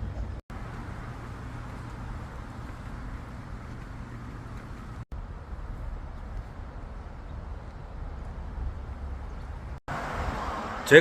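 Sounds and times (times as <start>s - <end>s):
low outdoor rumble: 0.0s - 9.8s.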